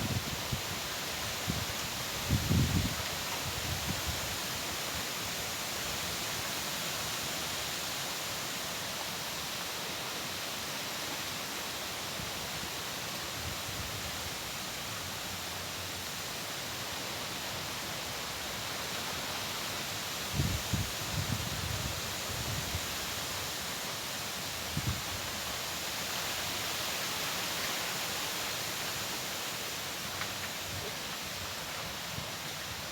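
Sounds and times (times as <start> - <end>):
wind: 0.0 - 32.9.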